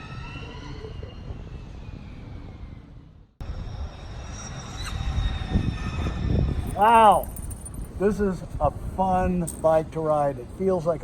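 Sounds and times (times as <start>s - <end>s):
road and wind rumble: 1.2s - 11.0s.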